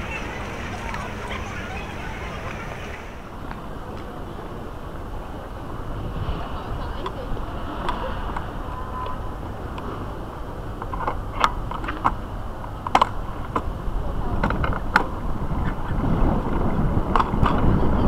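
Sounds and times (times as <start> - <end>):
wind on microphone: 0.0 - 10.8, 13.2 - 18.0
bicycle road rumble: 0.0 - 18.0.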